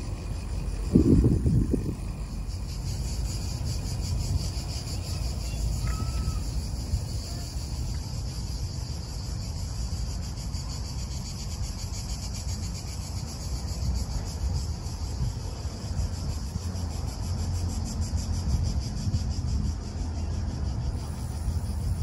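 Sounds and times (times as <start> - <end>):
cicadas buzzing: 0.0 - 22.0.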